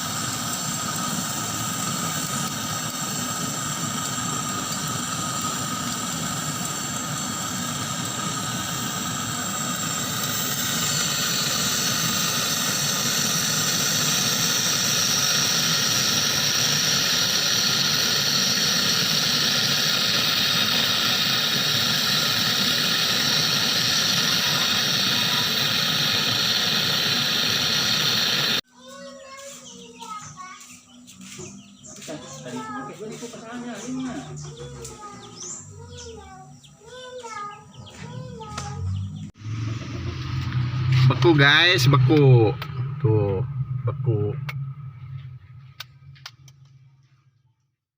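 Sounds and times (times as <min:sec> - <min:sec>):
machine hum: 0:00.0 - 0:28.6, 0:37.7 - 0:47.5
steady hissing with high whining: 0:00.0 - 0:46.8.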